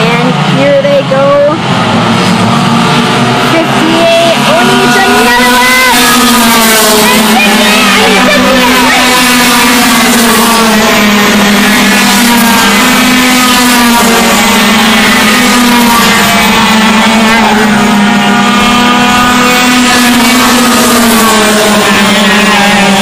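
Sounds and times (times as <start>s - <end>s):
racing kart engines at high revs: 0.0s - 23.0s.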